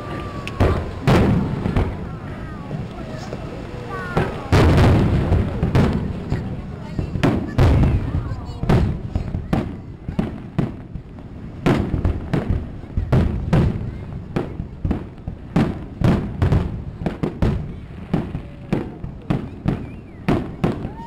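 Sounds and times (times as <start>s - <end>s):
firework shells bursting: 0.0s - 21.0s.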